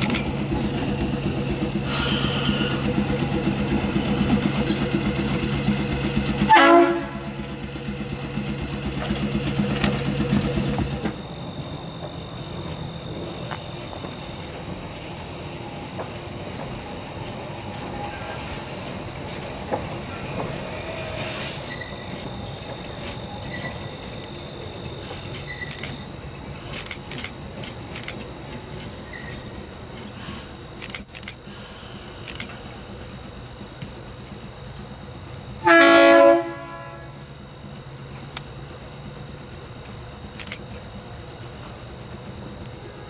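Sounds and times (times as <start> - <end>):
trolley car hum: 0.0 - 43.0
trolley running noise: 0.0 - 43.0.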